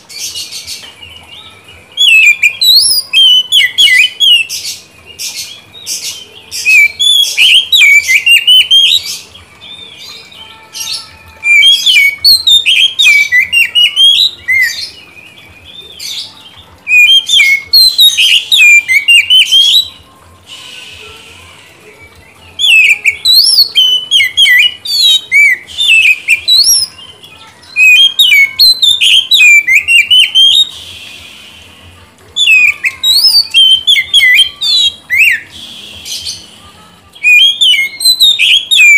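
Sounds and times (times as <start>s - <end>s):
bird singing whistled notes: 0.2s - 9.2s, 9.9s - 16.3s, 16.9s - 27.0s, 27.7s - 31.7s, 32.4s - 36.5s, 37.2s - 38.9s.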